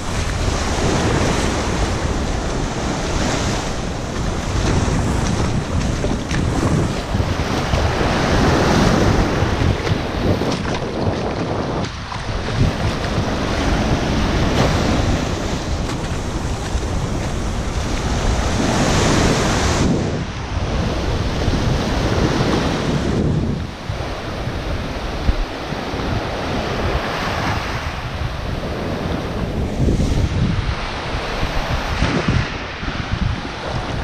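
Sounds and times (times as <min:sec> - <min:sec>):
surf washing up sandy shore: 0:00.0 - 0:34.0
wind buffeting microphone: 0:00.0 - 0:34.0.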